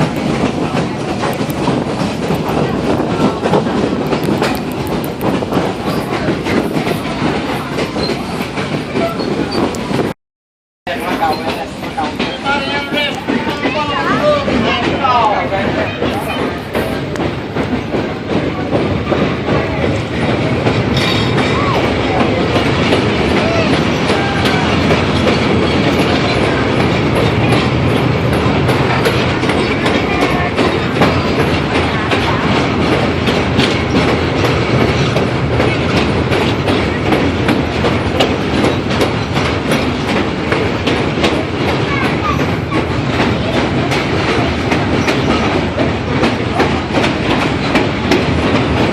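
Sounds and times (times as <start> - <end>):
wheels clicking over rails: 0.0 - 10.1, 10.9 - 48.9
train rumble: 0.0 - 10.2, 10.9 - 48.9.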